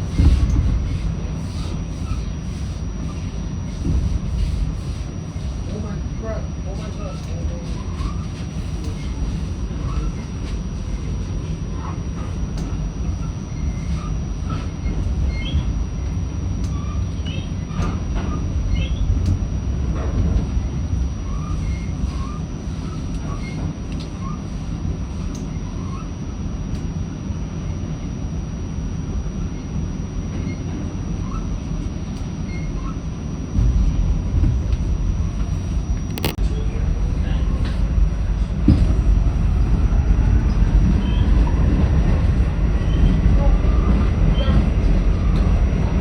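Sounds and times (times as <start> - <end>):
train rumbling on track: 0.0 - 25.3, 33.5 - 46.0.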